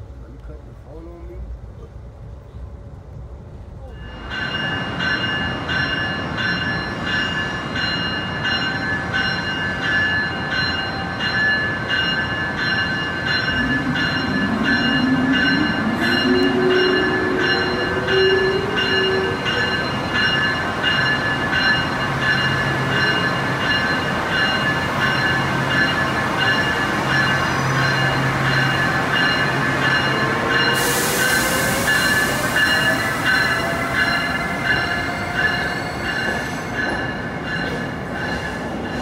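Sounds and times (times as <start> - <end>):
locomotive bell ringing: 4.0 - 39.0.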